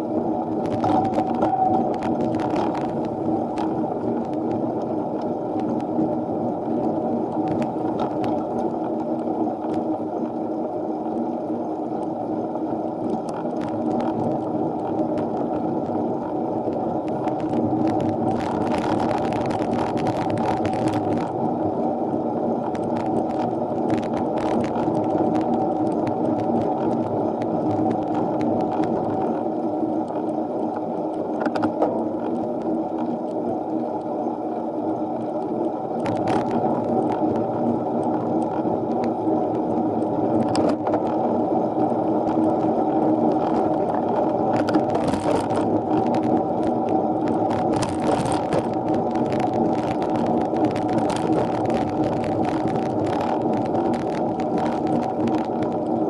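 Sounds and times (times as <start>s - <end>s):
muffled wind and riding noise: 0.0s - 56.0s.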